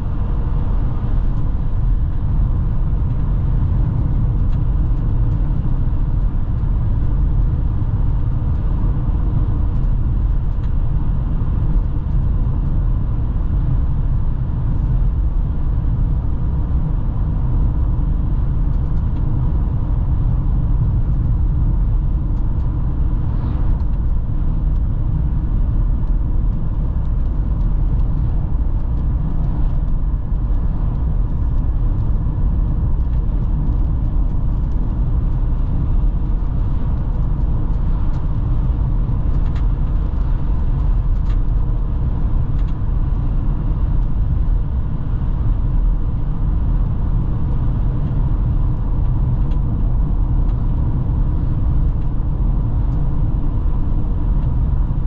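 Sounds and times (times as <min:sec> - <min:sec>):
car driving road rumble: 0:00.0 - 0:55.0.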